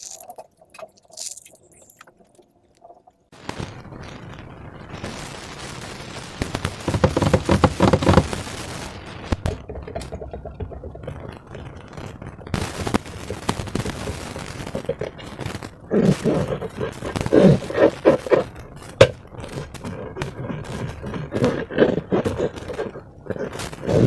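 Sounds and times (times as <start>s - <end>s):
slime crackling and popping: 0.0s - 24.0s.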